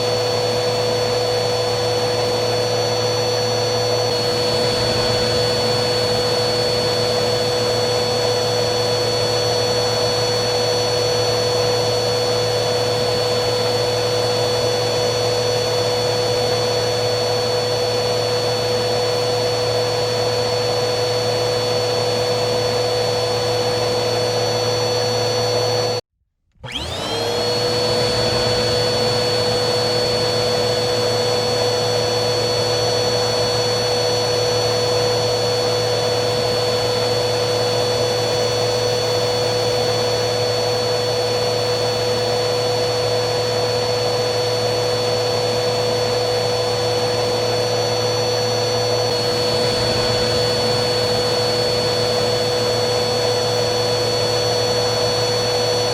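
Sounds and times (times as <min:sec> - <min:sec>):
vacuum cleaner motor whining: 0:00.0 - 0:55.9.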